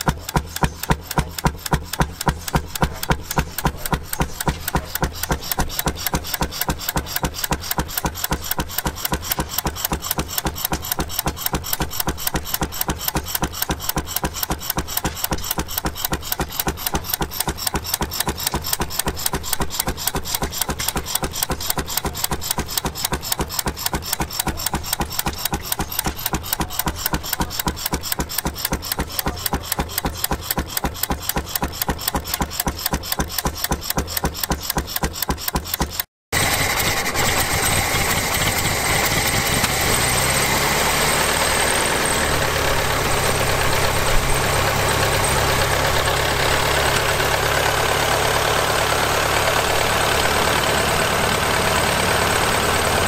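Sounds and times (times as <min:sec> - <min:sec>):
marine gas engine running: 0:00.0 - 0:53.0.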